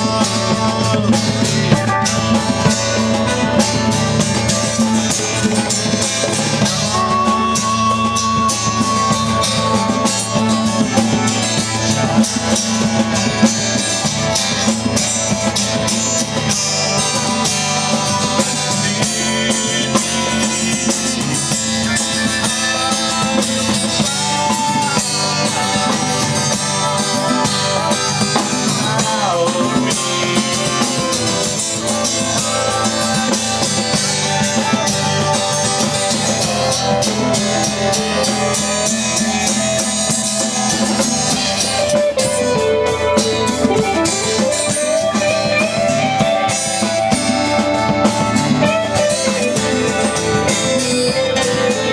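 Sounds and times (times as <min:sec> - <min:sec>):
live rock band playing: 0:00.0 - 0:51.9.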